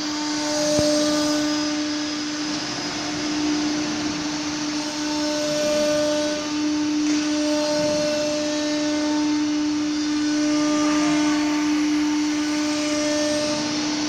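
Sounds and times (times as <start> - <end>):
machining center whine and rush: 0.0 - 14.0.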